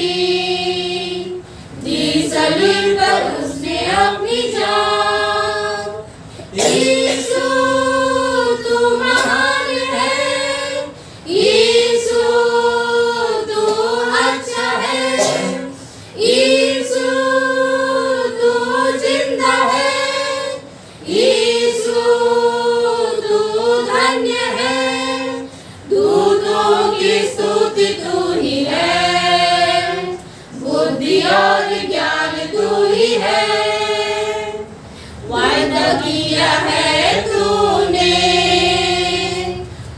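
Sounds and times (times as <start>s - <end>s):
women's choir singing hymn: 0.0s - 39.9s.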